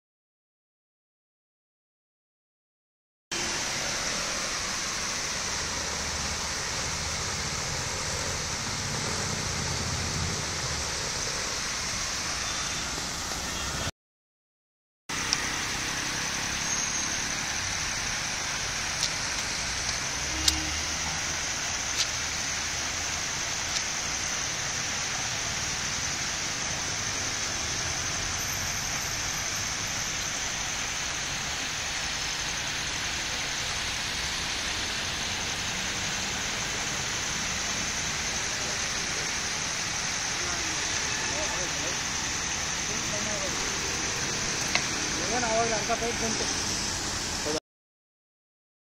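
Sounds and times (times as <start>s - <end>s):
water rushing into a lake: 3.4s - 13.3s, 15.1s - 47.6s.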